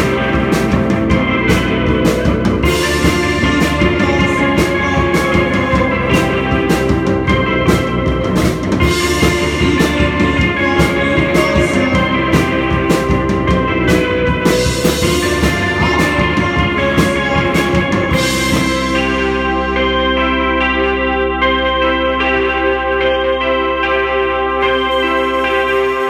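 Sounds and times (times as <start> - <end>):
drum kit playing: 0.0 - 19.7, 24.6 - 26.0
band playing sustained chords: 0.0 - 26.0.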